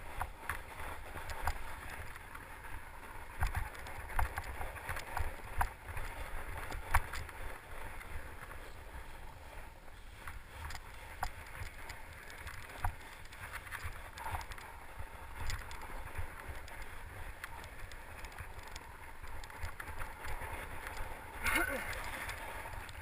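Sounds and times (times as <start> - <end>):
bike clicks and knocks: 0.0 - 2.5, 3.1 - 8.6, 10.3 - 23.0
bike tyres riding over snow: 0.0 - 23.0.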